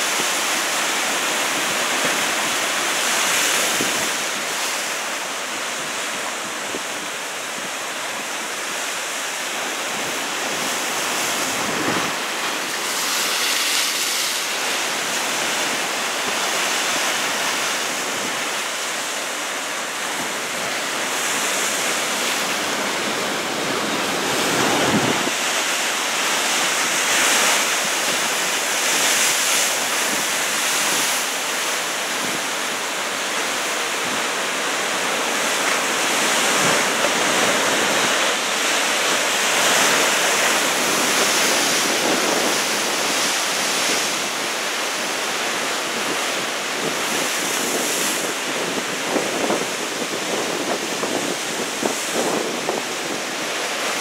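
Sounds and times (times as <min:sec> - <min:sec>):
wind on microphone: 0:00.0 - 0:08.8, 0:09.5 - 0:54.0
waves breaking: 0:00.0 - 0:54.0.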